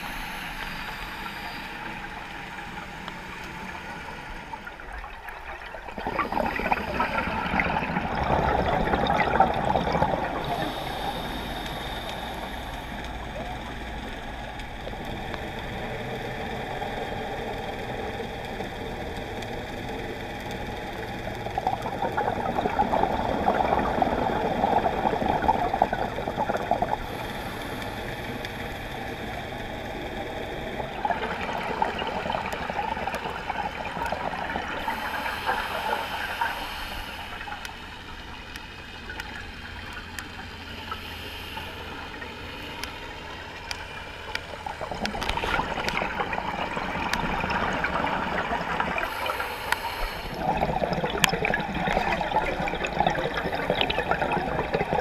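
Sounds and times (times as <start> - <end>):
diver regulator bubbling: 0.0 - 55.0
steady underwater hiss: 0.0 - 55.0.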